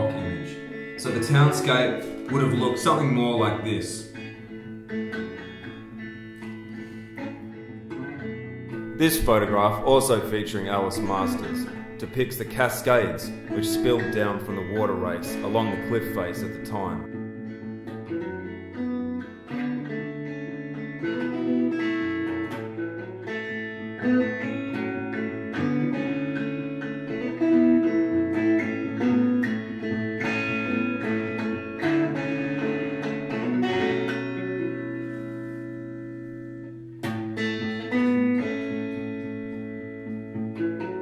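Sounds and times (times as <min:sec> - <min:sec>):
plucked guitar melody: 0:00.0 - 0:41.0.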